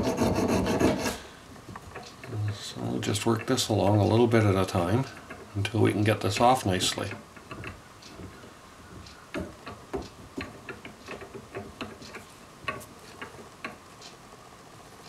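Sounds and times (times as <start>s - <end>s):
small metallic clicks and ticks: 1.6s - 15.0s.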